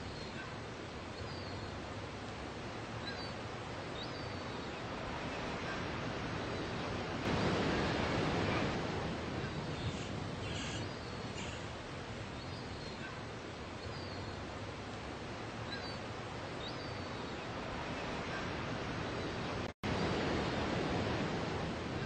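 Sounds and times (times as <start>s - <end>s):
surf washing up a beach: 0.0s - 22.0s.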